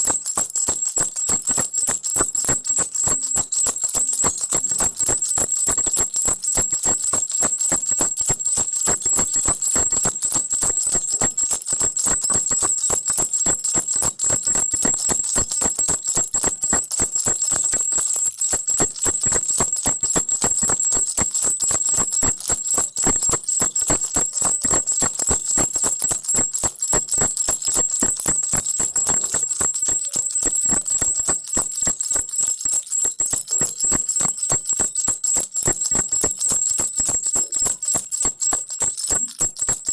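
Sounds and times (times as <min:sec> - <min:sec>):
baby rattle shaken rapidly: 0:00.0 - 0:39.9.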